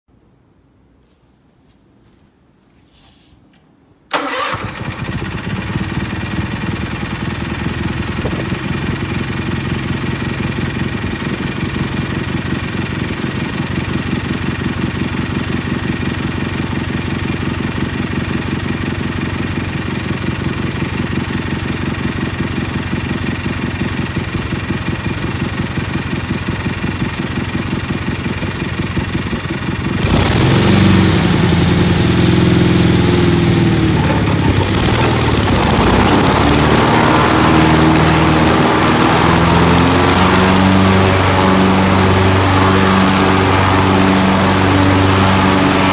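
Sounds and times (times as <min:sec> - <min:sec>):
engine idling: 0:04.1 - 0:45.9.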